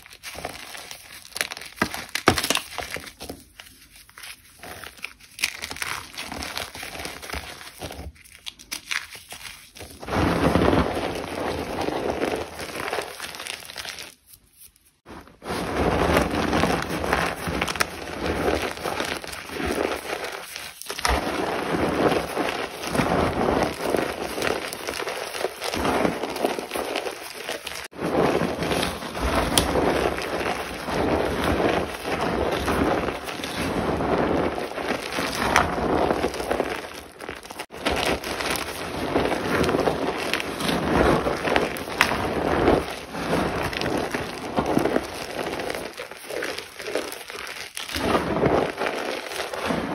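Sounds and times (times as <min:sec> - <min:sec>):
dry material crunching: 0:00.0 - 0:49.9.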